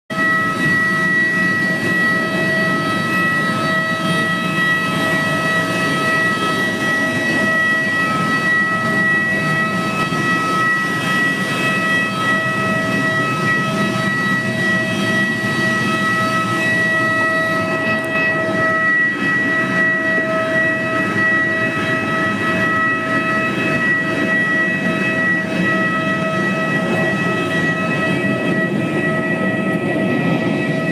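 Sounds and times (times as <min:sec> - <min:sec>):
high steady whine: 0:00.1 - 0:30.9.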